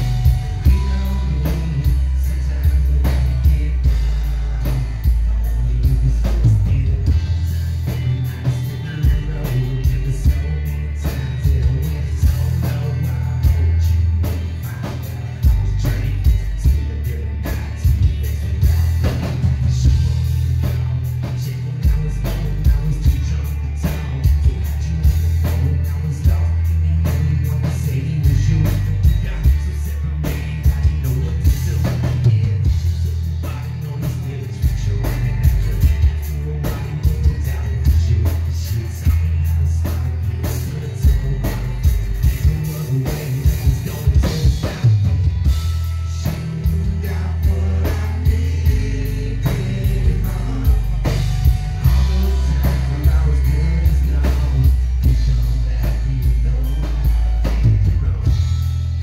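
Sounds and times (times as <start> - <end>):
acoustic guitar: 0.0 - 59.0
drums: 0.0 - 59.0
heavy bass: 0.0 - 59.0
person singing: 0.0 - 59.0.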